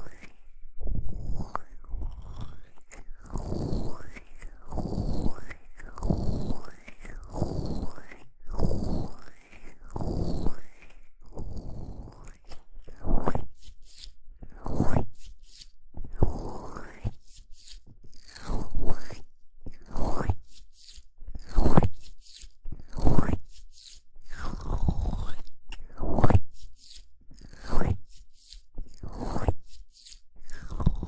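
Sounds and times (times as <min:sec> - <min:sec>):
hands rubbing microphone: 0:02.4 - 0:19.2, 0:19.8 - 0:25.5, 0:26.2 - 0:31.0.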